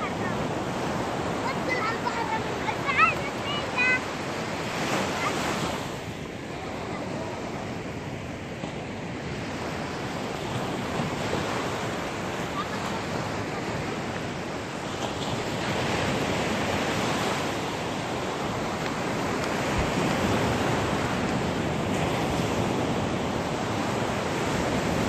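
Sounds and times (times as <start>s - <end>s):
waves breaking on shore: 0.0s - 25.0s
wind on microphone: 4.2s - 25.0s.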